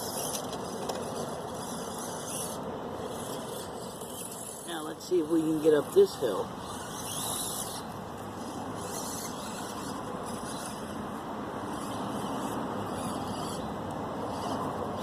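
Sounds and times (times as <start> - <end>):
small electric motor and gears running: 0.0 - 15.0.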